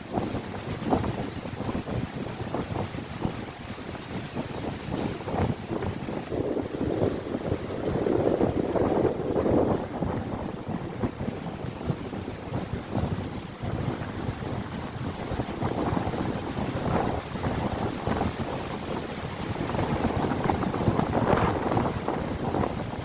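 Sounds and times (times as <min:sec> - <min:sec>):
storm wind buffeting microphone: 0:00.0 - 0:23.0.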